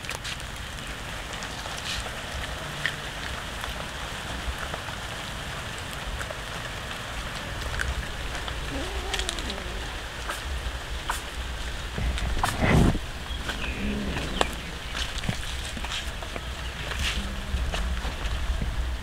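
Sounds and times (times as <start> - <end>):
cats chewing and crunching: 0.0 - 19.0.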